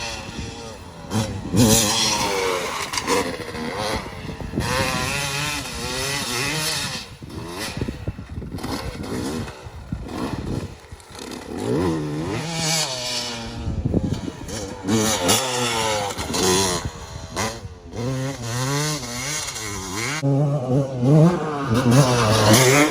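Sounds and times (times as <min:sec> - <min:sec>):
motocross bike engine revving: 0:00.0 - 0:22.9.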